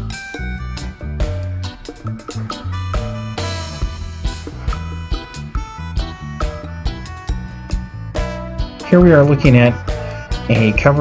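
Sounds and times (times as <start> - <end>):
guitar: 0.0 - 11.0
steady drum beat: 0.0 - 11.0
walking bass line: 0.0 - 11.0.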